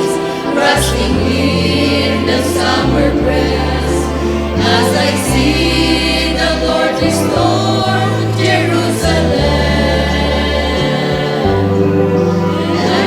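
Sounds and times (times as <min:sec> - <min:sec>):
vocal group singing gospel harmony: 0:00.0 - 0:13.0.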